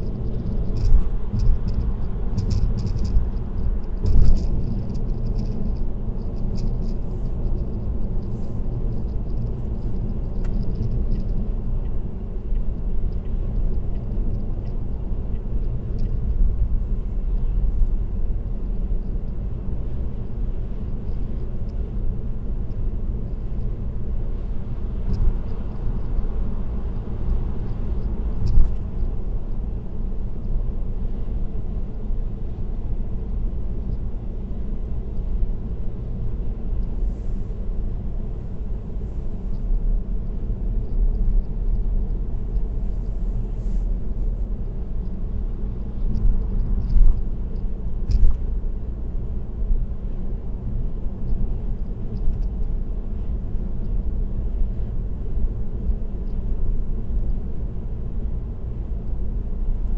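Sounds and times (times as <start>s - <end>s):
car road and tyre rumble: 0.0s - 59.9s.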